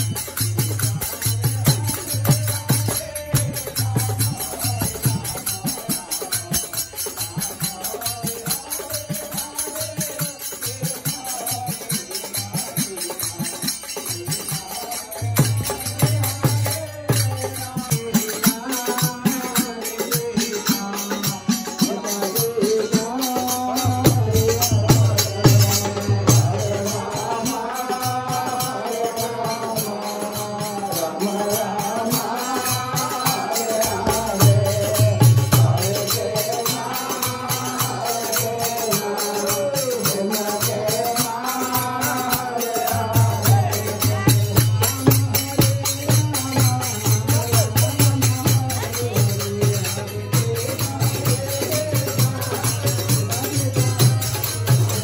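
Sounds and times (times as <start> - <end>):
man singing: 0.0 - 55.0.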